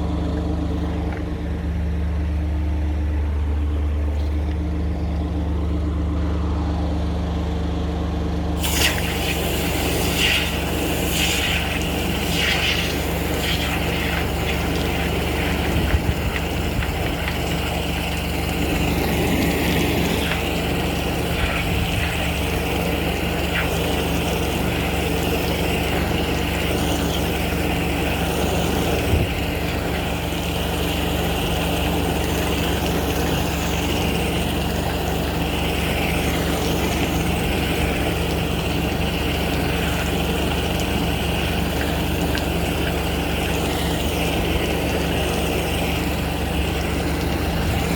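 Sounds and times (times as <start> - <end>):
drain jetting engine running: 0.0 - 47.9.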